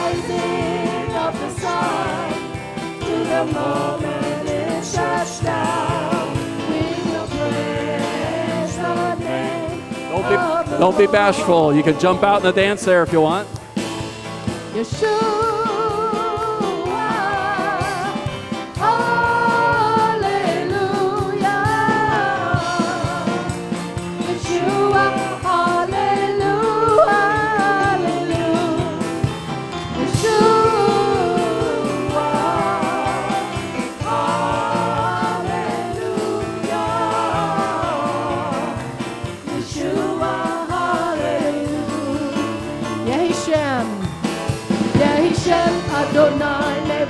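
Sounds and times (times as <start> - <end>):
person singing: 0.0 - 13.6, 14.7 - 29.3, 30.0 - 38.8, 45.0 - 47.0
band playing with steady beat: 0.0 - 47.0.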